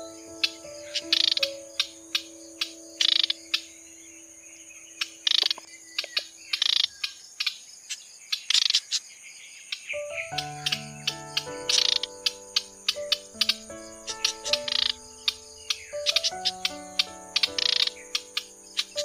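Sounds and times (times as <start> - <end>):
bunting bird calls: 0.0 - 7.7, 9.7 - 19.0.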